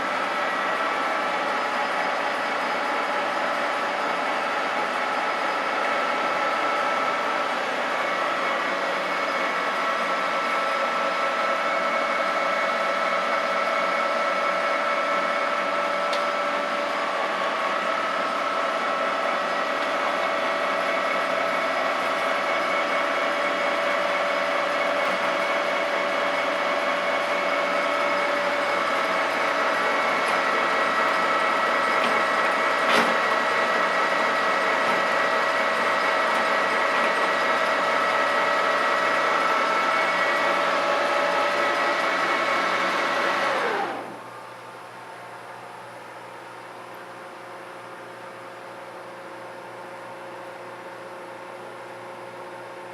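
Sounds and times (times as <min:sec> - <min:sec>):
lathe gear whine: 0:00.0 - 0:52.9
mechanical running noise: 0:00.0 - 0:52.9.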